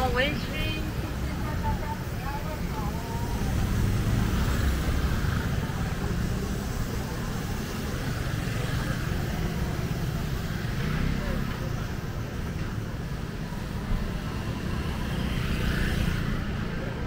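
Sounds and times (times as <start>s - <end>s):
faint voices: 0.0s - 17.0s
road traffic rumble: 0.0s - 17.0s.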